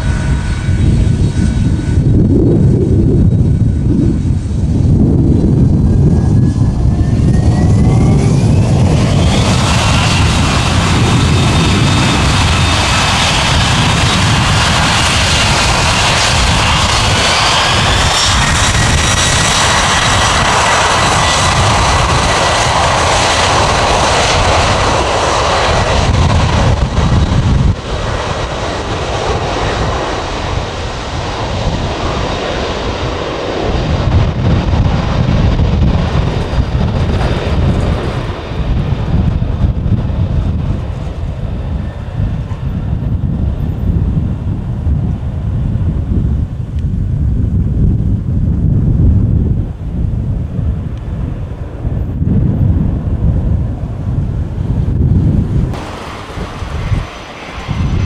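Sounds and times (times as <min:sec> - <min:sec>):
jet engines spooling up: 0:00.0 - 0:44.1, 0:51.2 - 0:58.0.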